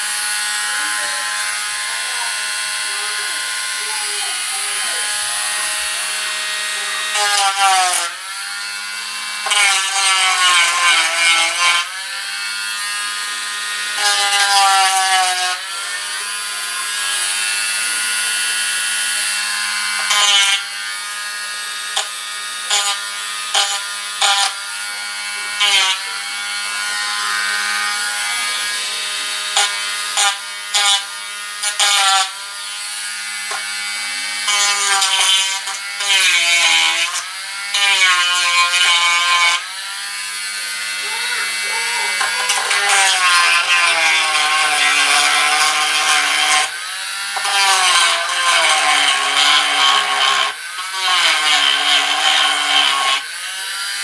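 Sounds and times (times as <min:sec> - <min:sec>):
rotary tool whining while sanding: 0:00.0 - 0:54.0.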